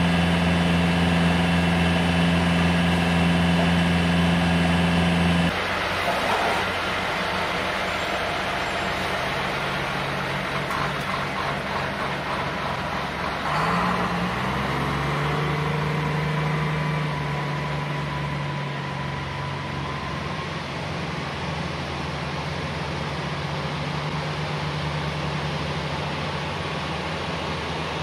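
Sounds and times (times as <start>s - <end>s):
diesel engine revving and droning: 0.0s - 28.0s.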